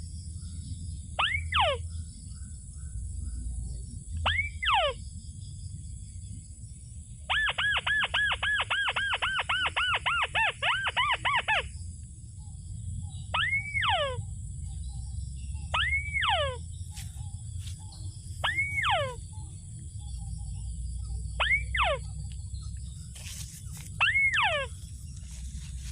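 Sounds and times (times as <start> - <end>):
bird calls: 0.0 - 5.2, 7.3 - 25.9.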